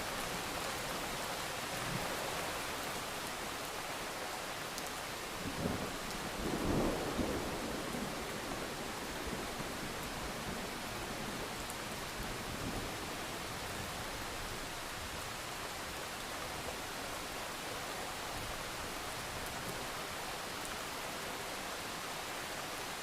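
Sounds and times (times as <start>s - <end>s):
steady rainfall: 0.0s - 23.0s.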